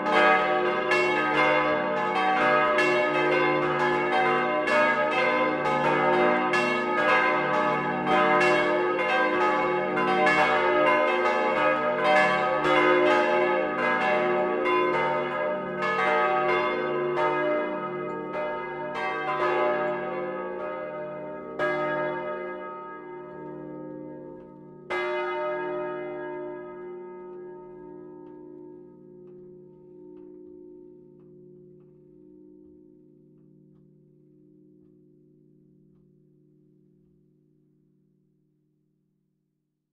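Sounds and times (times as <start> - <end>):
church bells pealing: 0.0 - 36.1.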